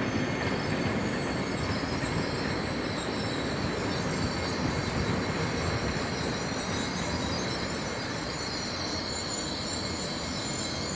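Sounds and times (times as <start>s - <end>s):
high wheel squeal: 0.0s - 10.9s
train wheels rumbling on rails: 0.0s - 10.9s.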